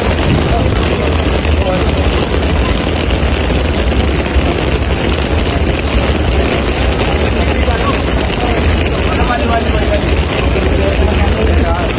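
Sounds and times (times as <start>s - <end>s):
heavy rain hissing: 0.0s - 11.9s
low rumble: 0.0s - 11.9s.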